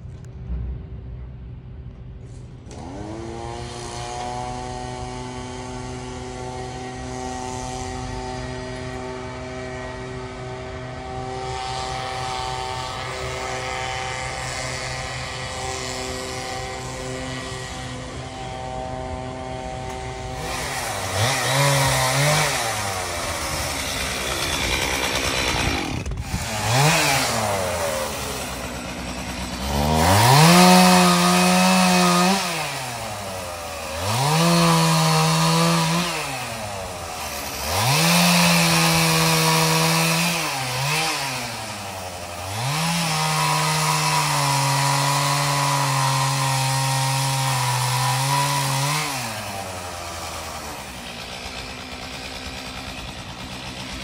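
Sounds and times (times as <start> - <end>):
chainsaw revving while cutting wood: 2.7 - 54.0.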